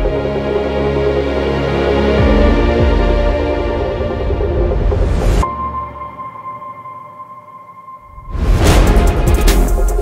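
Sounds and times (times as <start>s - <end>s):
ambient electronic music: 0.0s - 10.0s.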